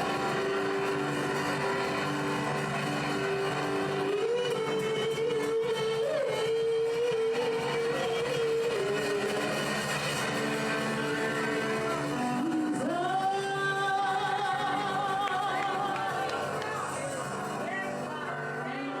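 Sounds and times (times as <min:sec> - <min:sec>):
live worship music: 0:00.0 - 0:19.0.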